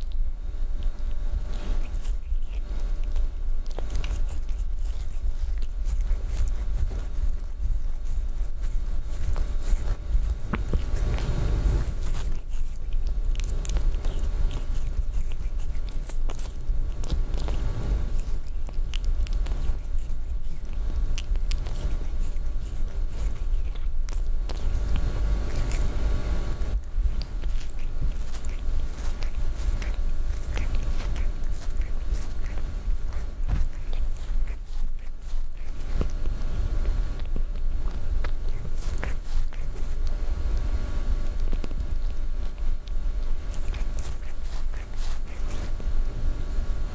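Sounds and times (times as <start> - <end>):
cat licking fur: 0.0 - 46.9
steady low rumble: 0.0 - 46.9.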